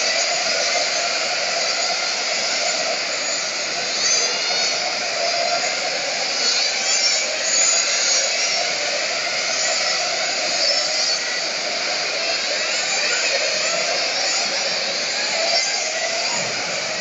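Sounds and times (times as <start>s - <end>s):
remote control car motors whining: 0.0s - 17.0s.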